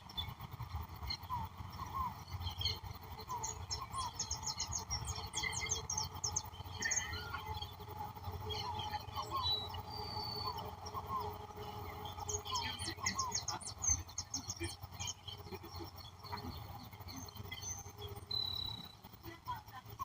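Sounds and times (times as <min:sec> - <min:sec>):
wild birds chirping and singing: 0:00.0 - 0:20.0.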